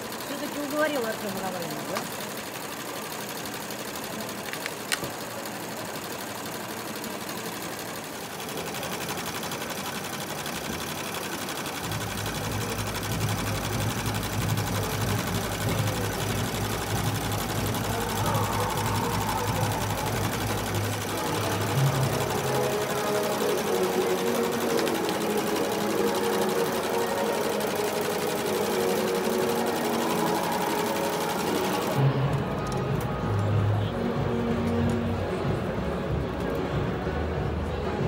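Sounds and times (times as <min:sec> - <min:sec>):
embroidery machine stitching: 0:00.0 - 0:33.5.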